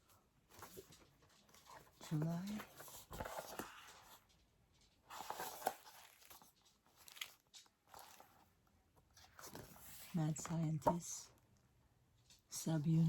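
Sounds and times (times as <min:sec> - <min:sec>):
stiff paper rustling and clicking: 0:00.4 - 0:11.1.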